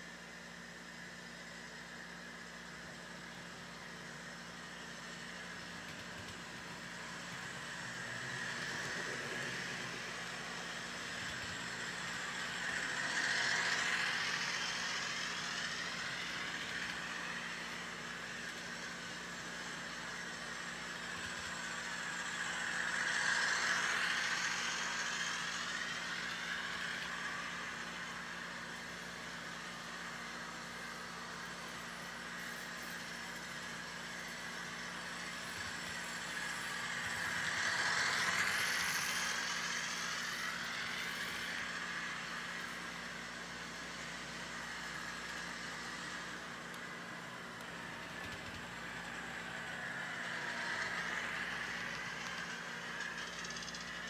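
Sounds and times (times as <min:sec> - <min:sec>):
model locomotives running on track: 0:00.0 - 0:54.0.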